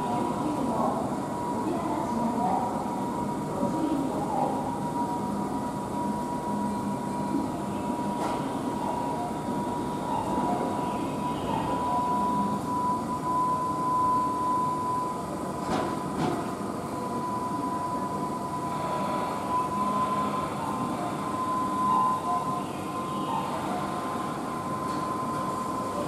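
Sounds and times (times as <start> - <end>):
electric train high tone: 3.7 - 16.2, 16.8 - 26.0.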